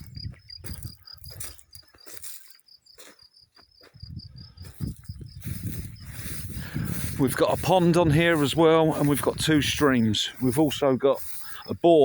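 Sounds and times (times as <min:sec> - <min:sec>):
cricket chirping: 0:00.0 - 0:06.8, 0:08.9 - 0:12.0.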